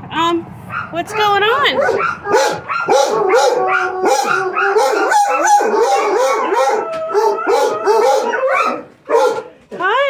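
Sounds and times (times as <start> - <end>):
dogs howling and barking: 0.7 - 9.6.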